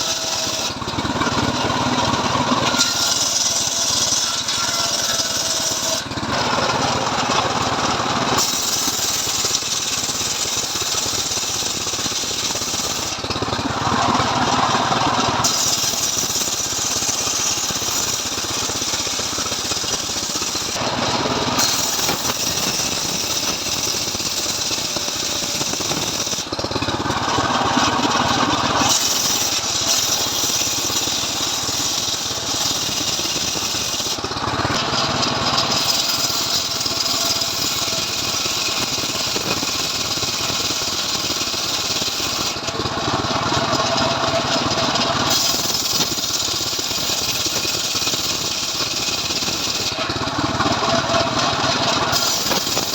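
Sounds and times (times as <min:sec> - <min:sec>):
chainsaw sawing a log: 0:00.0 - 0:52.9.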